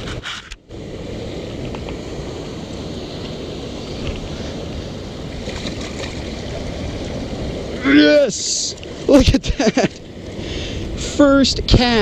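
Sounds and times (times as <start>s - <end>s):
surf washing around rocks: 0.0s - 12.0s
wind rumbling on microphone: 0.0s - 12.0s.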